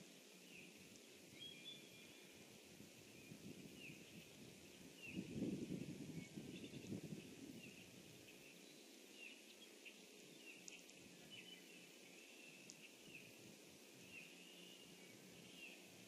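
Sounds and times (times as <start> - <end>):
low hiss: 0.0 - 16.0.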